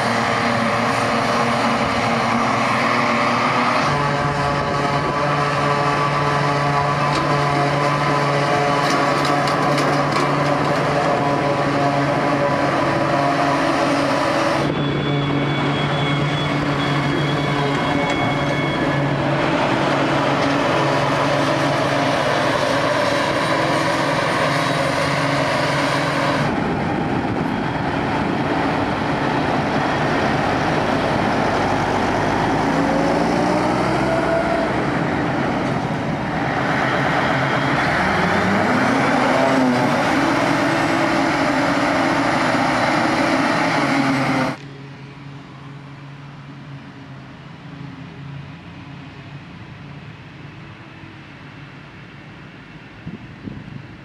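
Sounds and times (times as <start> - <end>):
forage harvester diesel engine: 0.0 - 54.0
tractor engine running under load: 0.0 - 54.0.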